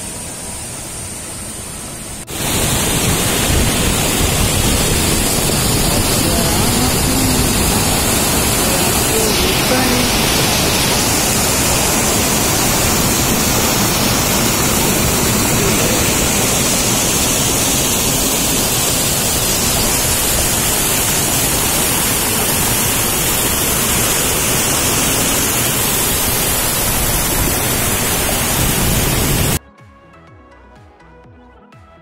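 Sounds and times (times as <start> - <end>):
river water rushing over rocks: 2.3 - 29.6.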